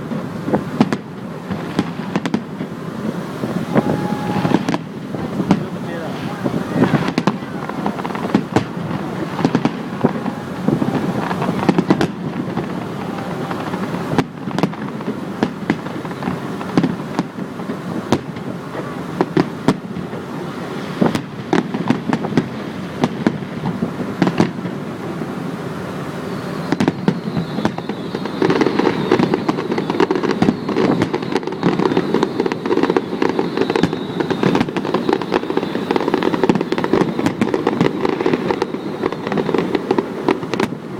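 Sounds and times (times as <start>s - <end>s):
continuous rumble: 0.0s - 40.9s
fireworks bangs and booms: 0.0s - 40.9s.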